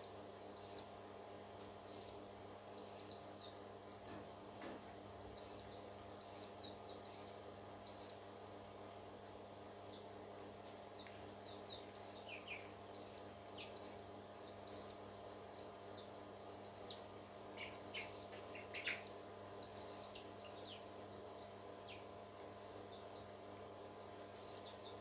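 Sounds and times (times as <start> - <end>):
parrot chicks cheeping: 0.0 - 8.6, 9.7 - 25.0.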